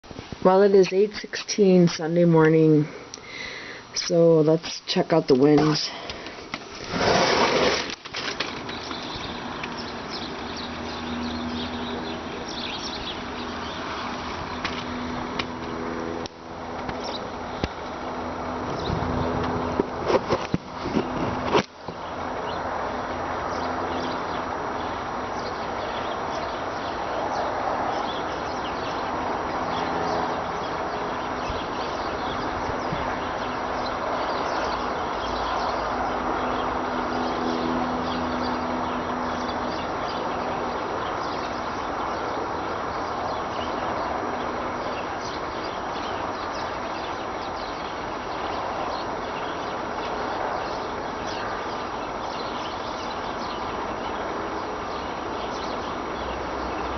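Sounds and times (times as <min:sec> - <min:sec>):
steady rushing roar: 0:05.6 - 0:56.9.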